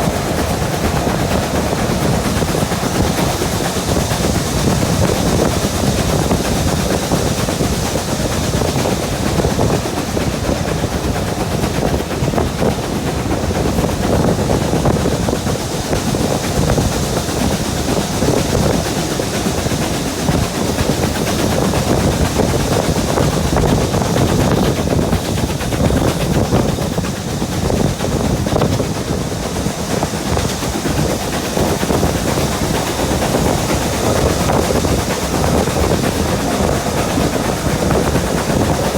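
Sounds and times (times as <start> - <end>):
train wheels rumbling and rattling: 0.0 - 38.9.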